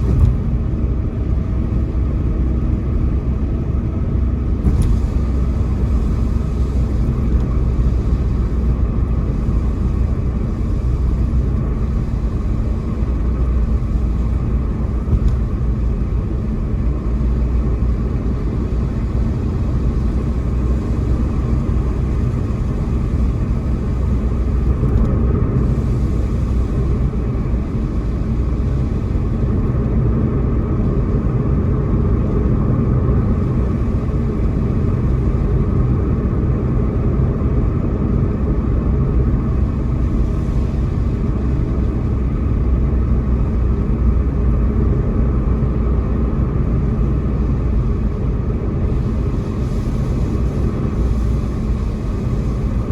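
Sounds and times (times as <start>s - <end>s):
car road and tyre noise: 0.0s - 52.9s.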